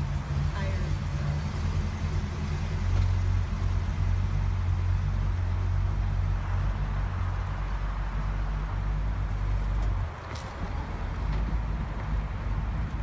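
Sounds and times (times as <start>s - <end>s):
car engine deep rumble: 0.0s - 13.0s.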